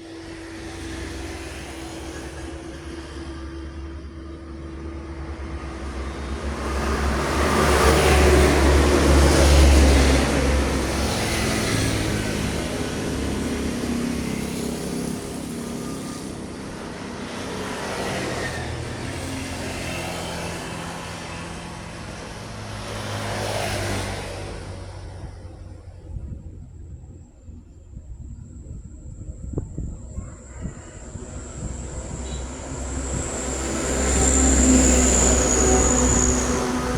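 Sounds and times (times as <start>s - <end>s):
heavy diesel vehicle passing: 0.0s - 36.9s
lighter vehicles passing: 0.0s - 36.9s.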